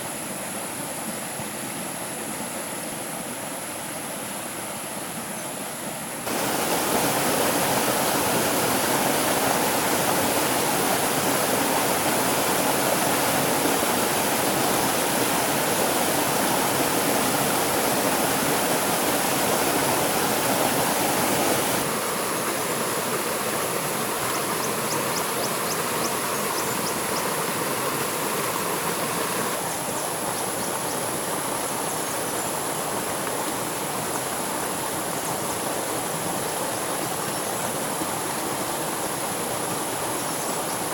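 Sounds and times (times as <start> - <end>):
stream water rushing: 6.2 - 40.9.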